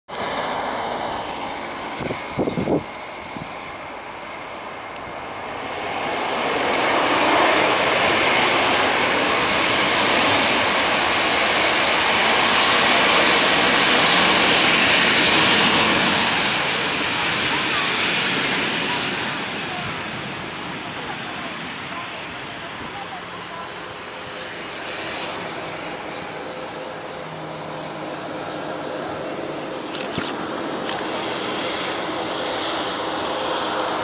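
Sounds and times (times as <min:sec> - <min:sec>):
jet engines roaring: 0:00.1 - 0:34.0.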